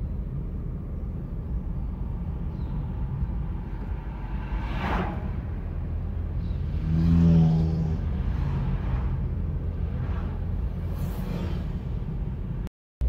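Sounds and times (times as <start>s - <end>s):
car cabin road rumble: 0.0s - 12.7s.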